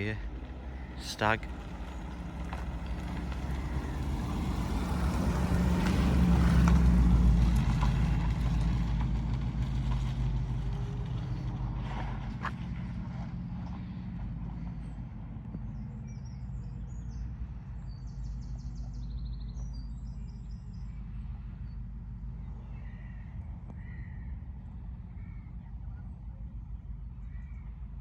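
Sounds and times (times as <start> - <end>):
car engines rumbling: 0.0 - 28.0.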